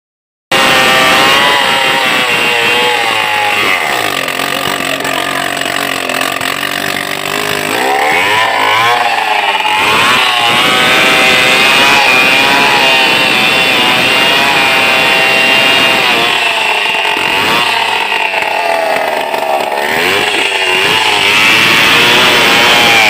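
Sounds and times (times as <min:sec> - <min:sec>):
chainsaw running and revving: 0:00.5 - 0:23.0.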